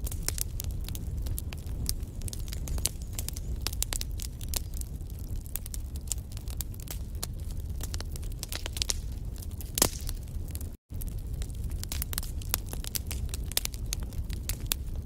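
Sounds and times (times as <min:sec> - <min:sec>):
fire rumbling: 0:00.0 - 0:15.0
wood fire crackling and popping: 0:00.0 - 0:15.0.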